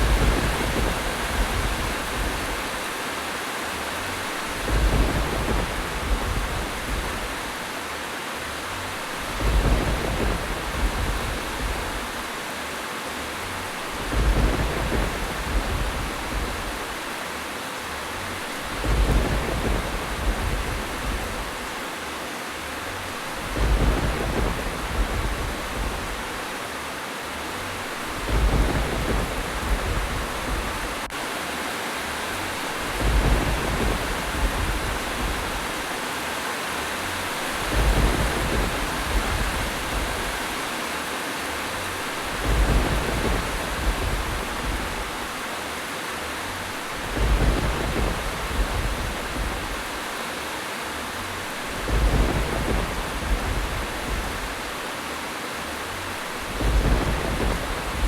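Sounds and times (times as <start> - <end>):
low thunder rumbles: 0.0 - 3.0, 3.7 - 7.8, 8.5 - 12.6, 13.3 - 17.2, 18.0 - 21.9, 22.6 - 26.7, 27.3 - 31.2, 32.3 - 36.1, 36.7 - 40.8, 41.5 - 45.6, 46.4 - 50.2, 50.9 - 54.9, 55.7 - 58.0
heavy rain hissing: 0.0 - 58.0.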